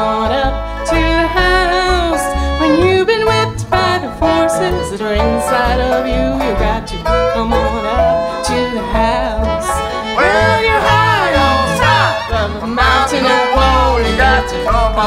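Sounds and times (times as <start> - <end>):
bluegrass band playing: 0.0 - 15.0
sliding bending lead notes: 0.0 - 15.0.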